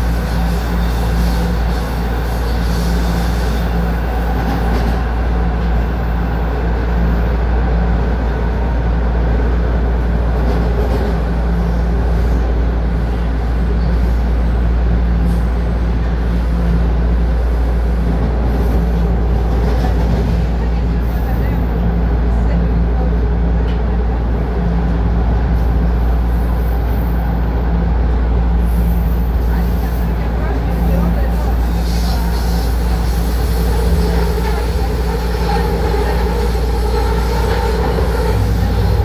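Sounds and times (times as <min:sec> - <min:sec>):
subway train wheels rumbling: 0:00.0 - 0:39.0.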